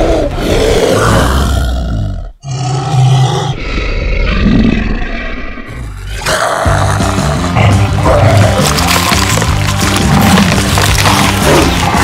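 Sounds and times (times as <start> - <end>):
growling monster roar: 0.0 - 8.7, 10.0 - 12.0.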